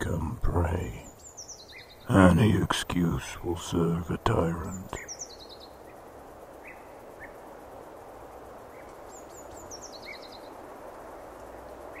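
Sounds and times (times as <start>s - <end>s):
songbird singing: 0.0s - 12.0s
steady outdoor hiss: 0.0s - 12.0s.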